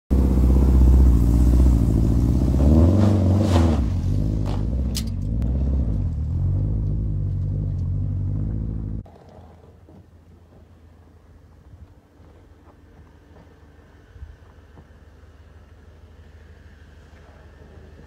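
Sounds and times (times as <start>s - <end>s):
car engine and exhaust under load: 0.1s - 18.0s.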